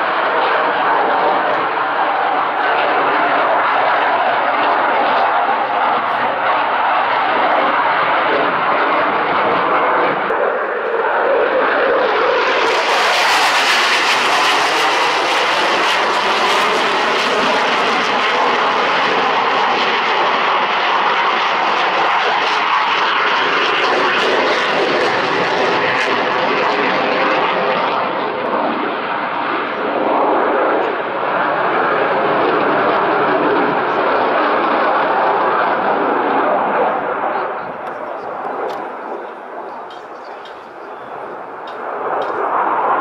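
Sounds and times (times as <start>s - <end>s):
military jet flying overhead: 0.0s - 43.0s.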